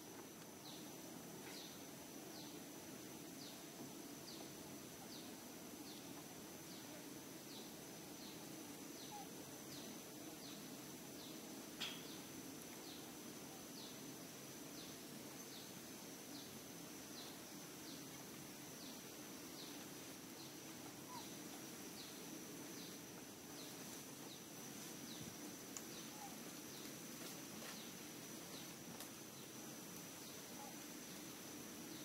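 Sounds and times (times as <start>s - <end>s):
insect-like whine: 0.0s - 32.0s.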